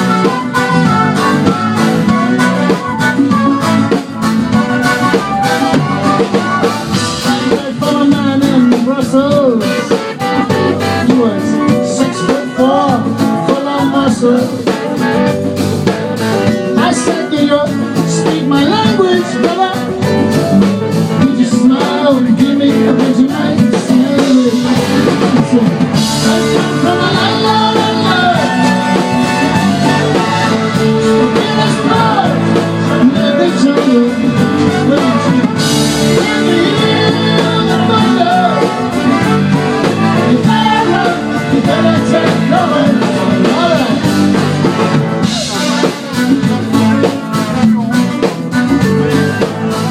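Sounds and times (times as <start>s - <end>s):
person singing: 0.0s - 15.2s, 15.8s - 49.9s
live band playing: 0.0s - 49.9s.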